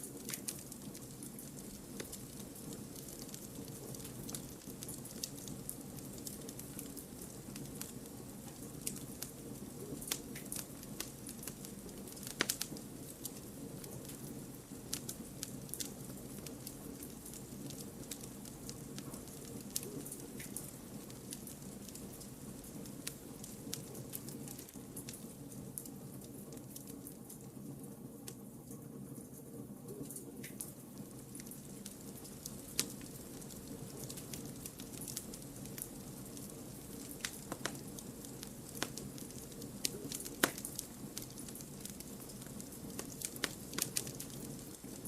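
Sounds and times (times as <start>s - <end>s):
logs crackling and popping: 0.0s - 27.5s, 30.0s - 45.0s.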